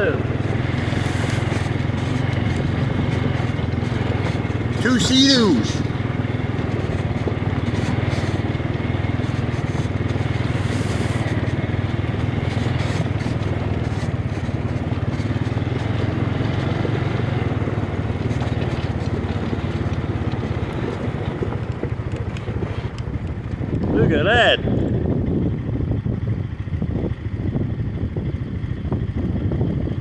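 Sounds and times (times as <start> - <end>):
motorbike engine running: 0.0 - 30.0.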